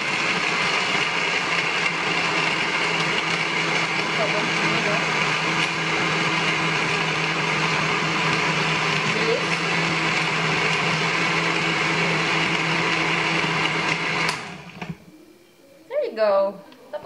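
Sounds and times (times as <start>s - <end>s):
blender motor running: 0.0s - 15.0s.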